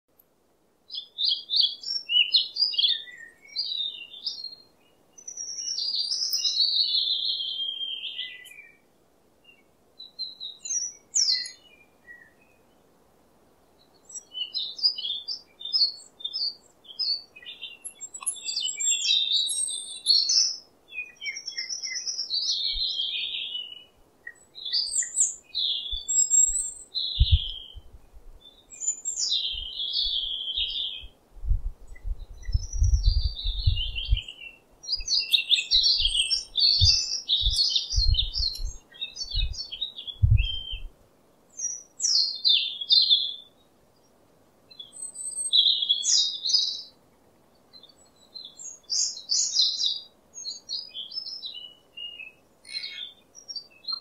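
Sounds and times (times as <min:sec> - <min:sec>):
songbirds chirping and trilling: 0:00.1 - 0:54.0.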